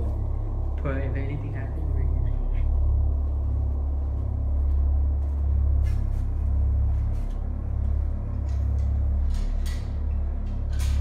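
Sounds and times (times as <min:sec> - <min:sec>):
deep rumble: 0:00.0 - 0:11.0.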